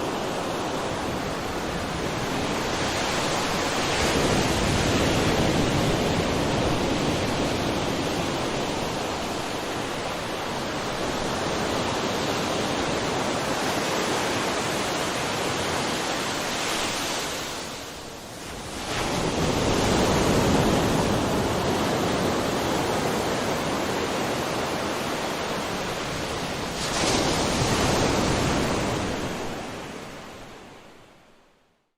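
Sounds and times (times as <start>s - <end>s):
sea waves washing on shore: 0.0s - 31.2s.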